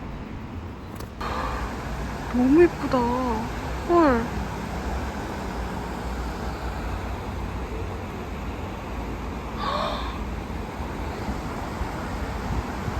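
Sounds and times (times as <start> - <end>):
wind rumbling on microphone: 0.0 - 12.9.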